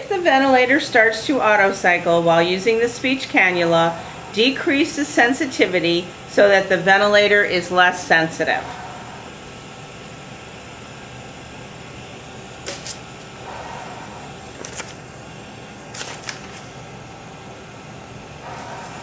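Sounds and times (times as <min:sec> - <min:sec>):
steady hiss: 0:00.0 - 0:19.0
ventilator air puffs: 0:00.0 - 0:19.0.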